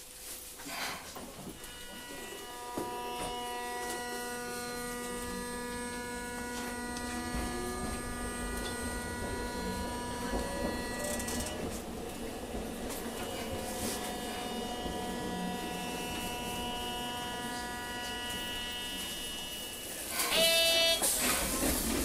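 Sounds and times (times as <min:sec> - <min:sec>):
tram electric whine: 0:00.0 - 0:22.0.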